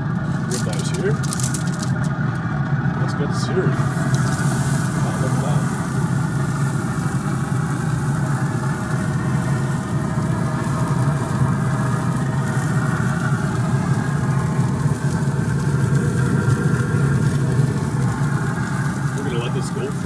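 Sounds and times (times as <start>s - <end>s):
grill fan and fire rushing: 0.0s - 20.0s
meat sizzling on grates: 3.8s - 20.0s.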